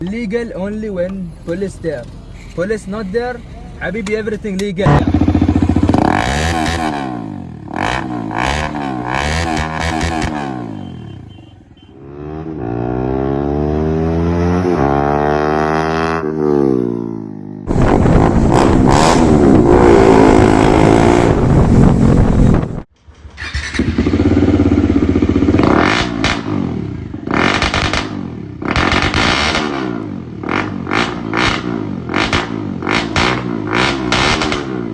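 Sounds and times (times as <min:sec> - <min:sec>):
motorcycle engine revving: 0:04.8 - 0:34.9.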